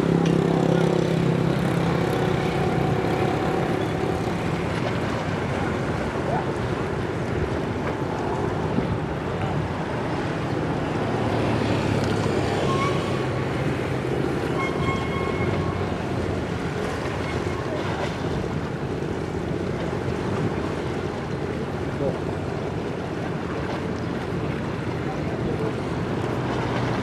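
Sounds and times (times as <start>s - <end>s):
boat engine humming: 0.0s - 27.0s
water wash: 0.0s - 27.0s.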